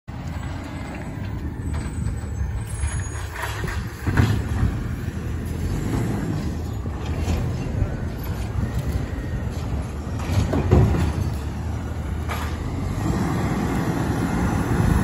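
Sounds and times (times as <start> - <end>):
garbage truck diesel engine rumbling: 0.1 - 15.0.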